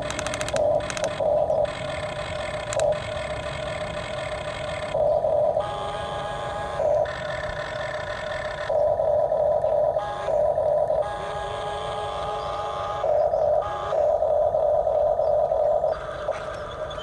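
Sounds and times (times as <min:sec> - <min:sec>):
toy gear motors whirring: 0:00.0 - 0:16.9
steady motor hum: 0:00.0 - 0:17.0.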